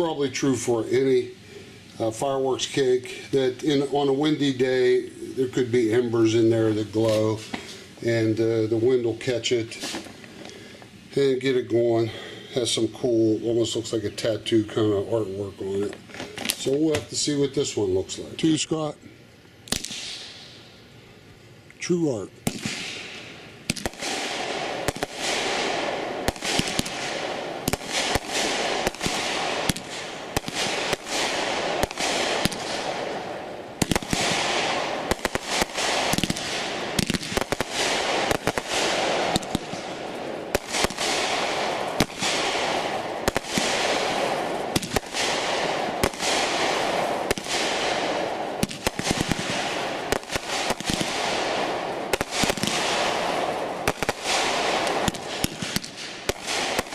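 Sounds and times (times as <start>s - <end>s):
fireworks shots and bursts: 0.0s - 10.2s, 19.6s - 20.7s, 22.0s - 56.9s
fireworks hiss and crackle: 0.0s - 56.9s.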